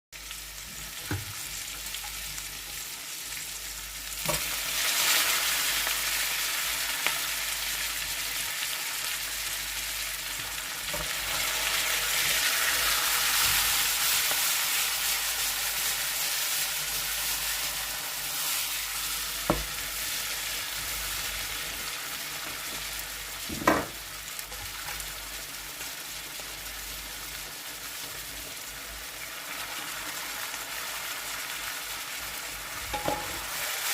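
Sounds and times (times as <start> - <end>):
vegetables sizzling in a pan: 0.2 - 33.9.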